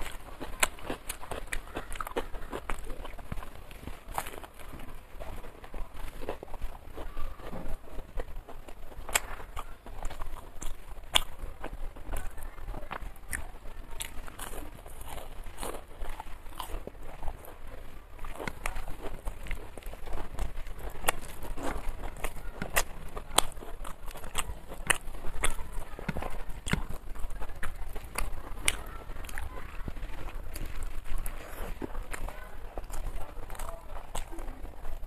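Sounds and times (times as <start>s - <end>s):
person chewing and crunching food: 0.0s - 35.0s.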